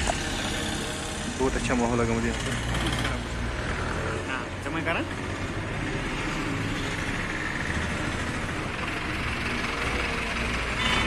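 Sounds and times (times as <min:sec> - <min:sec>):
street background noise: 0:00.0 - 0:11.0
vehicle engine running: 0:00.0 - 0:11.0.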